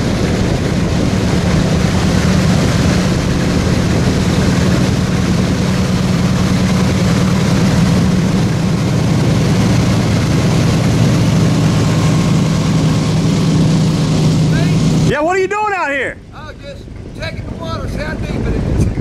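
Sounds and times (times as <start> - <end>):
airboat engine idling: 0.0 - 19.0.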